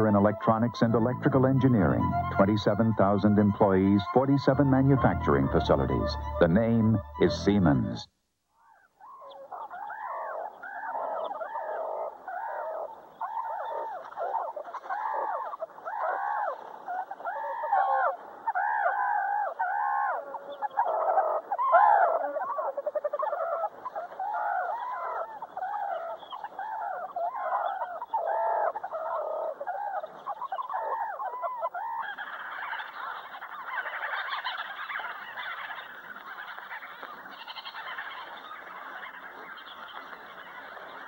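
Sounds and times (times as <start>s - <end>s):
bee-eaters chirping: 0.0s - 41.0s.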